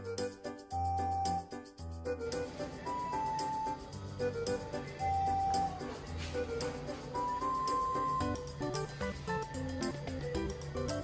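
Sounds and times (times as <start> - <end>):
light background music: 0.0 - 11.0.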